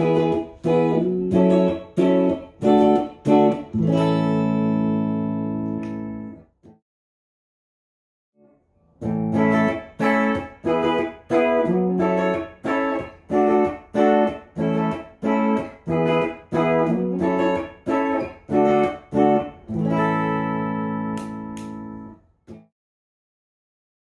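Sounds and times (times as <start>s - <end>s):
electric guitar choppy chords: 0.0s - 6.4s, 9.0s - 22.6s.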